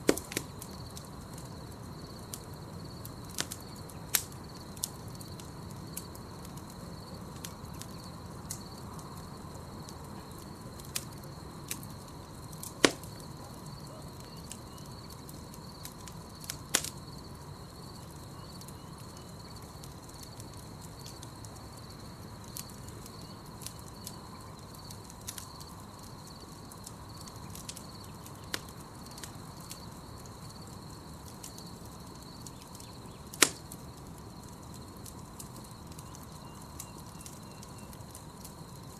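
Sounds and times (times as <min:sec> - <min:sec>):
burning wood popping: 0:00.0 - 0:38.9
campfire crackling: 0:00.0 - 0:38.9
low rush of fire: 0:00.0 - 0:38.9.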